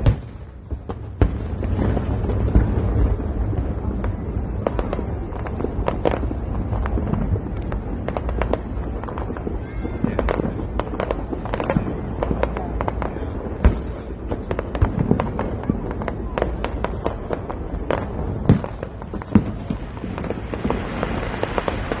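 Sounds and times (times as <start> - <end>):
fireworks crackling: 0.0 - 22.0
loud firework booms: 0.0 - 22.0.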